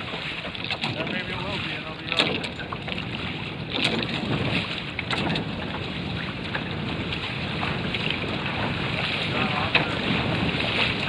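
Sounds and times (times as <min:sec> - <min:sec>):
water rushing along hull: 0:00.0 - 0:11.0
water slapping hull: 0:00.0 - 0:11.0
wind buffeting microphone: 0:00.0 - 0:11.0.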